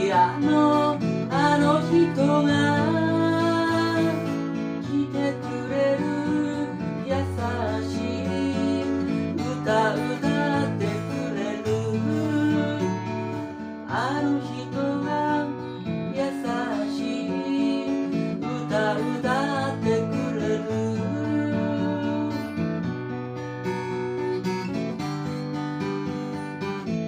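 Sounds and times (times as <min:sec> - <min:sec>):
strummed acoustic guitar: 0:00.0 - 0:27.0.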